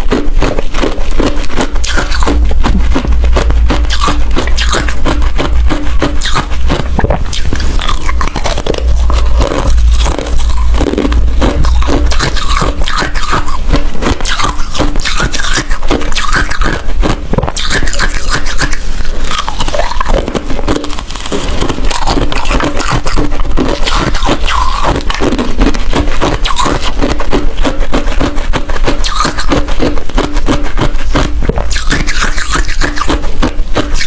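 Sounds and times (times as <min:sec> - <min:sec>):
ice being chewed: 0:00.0 - 0:34.0.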